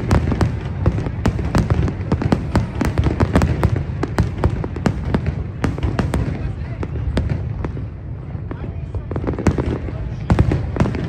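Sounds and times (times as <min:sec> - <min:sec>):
fireworks sharp bangs and crackling: 0:00.0 - 0:11.0.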